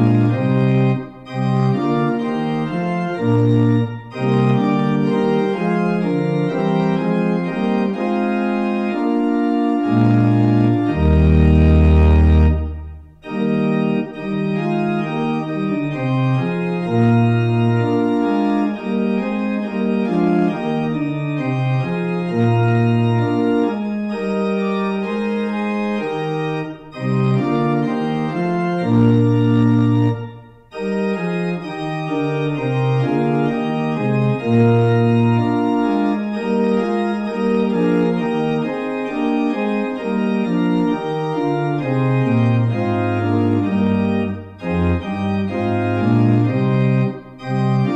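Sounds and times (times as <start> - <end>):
organ music: 0.0 - 47.9.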